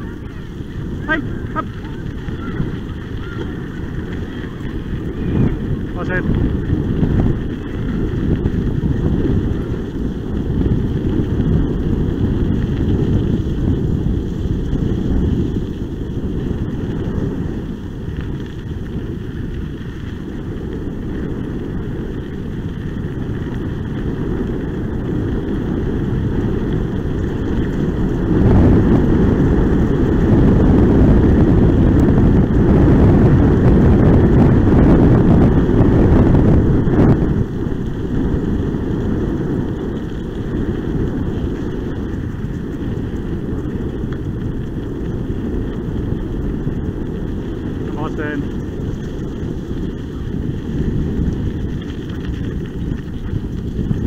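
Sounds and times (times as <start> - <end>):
tyres rolling over gravel: 0.0 - 54.0
wind buffeting microphone: 0.0 - 54.0.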